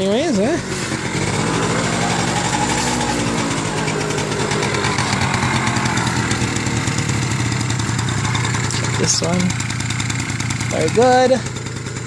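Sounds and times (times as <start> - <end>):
moped engine idling: 0.0 - 12.0.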